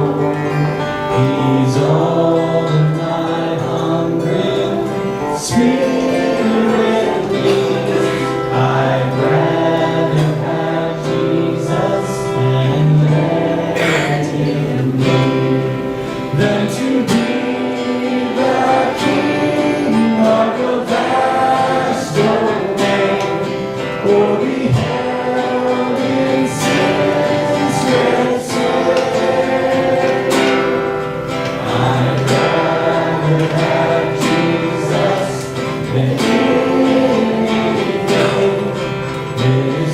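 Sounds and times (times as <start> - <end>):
guitar accompaniment: 0.0 - 39.9
voices singing together: 0.0 - 39.9.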